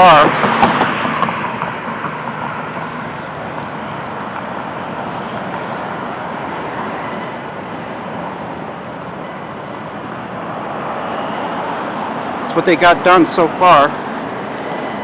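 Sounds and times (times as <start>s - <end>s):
passing cars: 0.0s - 15.0s.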